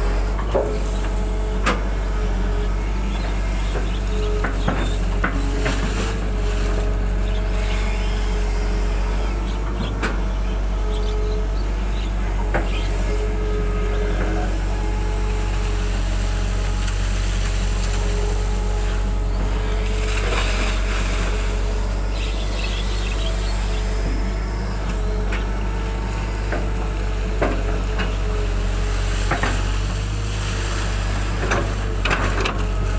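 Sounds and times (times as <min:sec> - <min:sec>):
excavator engine running: 0:00.0 - 0:32.9.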